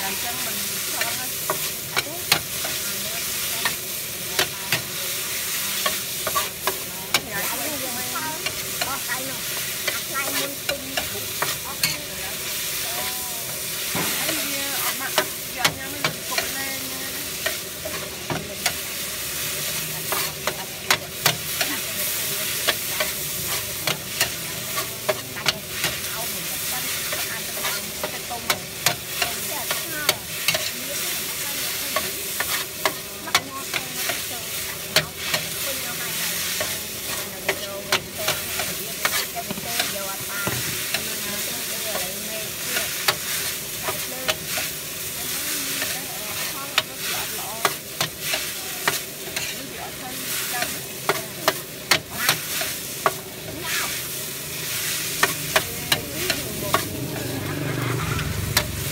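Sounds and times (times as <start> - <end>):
hot oil sizzling: 0.0 - 58.9
metal spatula scraping a wok: 0.0 - 58.9.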